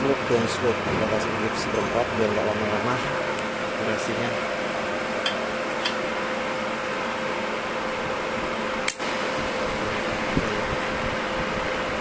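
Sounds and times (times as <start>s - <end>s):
welder cooling fan whirring: 0.0s - 12.0s.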